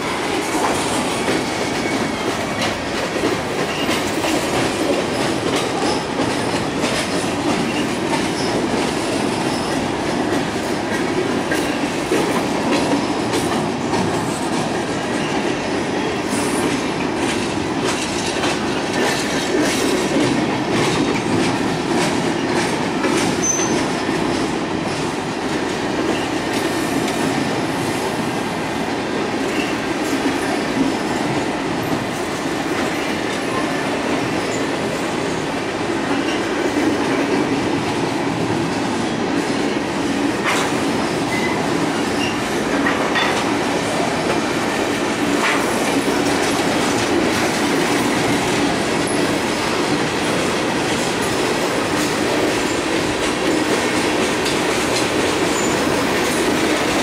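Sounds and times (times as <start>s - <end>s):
train wheels clicking over rail joints: 0.0s - 57.0s.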